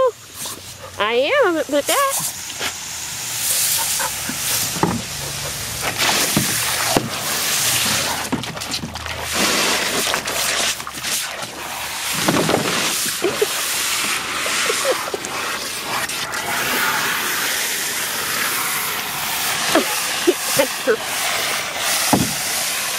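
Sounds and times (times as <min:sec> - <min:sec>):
hose nozzle spraying water: 0:00.1 - 0:22.9
dog splashing in water: 0:01.8 - 0:22.9.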